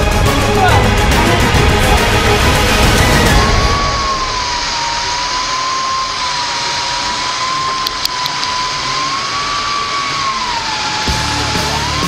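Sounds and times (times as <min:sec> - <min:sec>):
winch motor whining: 0:00.0 - 0:12.0.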